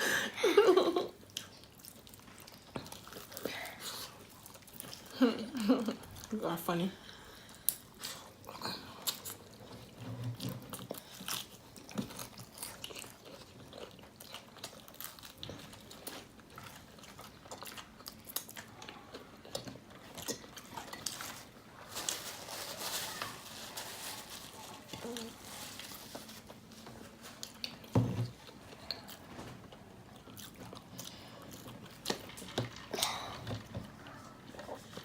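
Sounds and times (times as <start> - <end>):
chewing and crunching food: 0.7 - 35.0.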